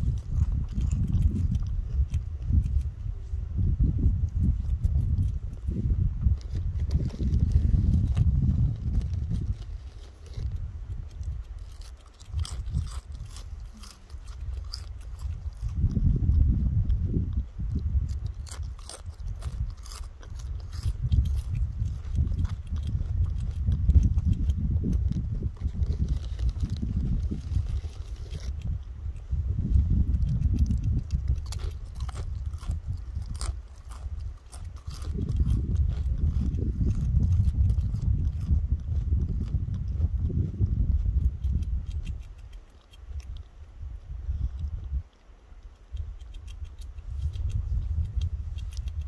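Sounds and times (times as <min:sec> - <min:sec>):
squirrel crunching a chip: 0:00.0 - 0:49.0
steady low rumble: 0:00.0 - 0:49.0.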